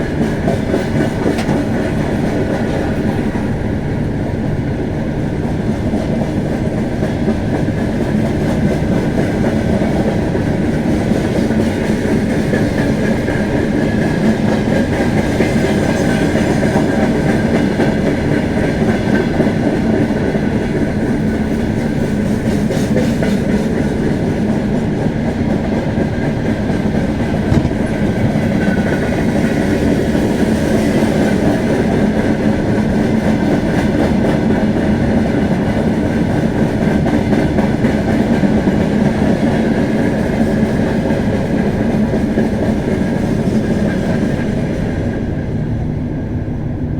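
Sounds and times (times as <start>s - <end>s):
wheels clacking on rails: 0.0s - 46.3s.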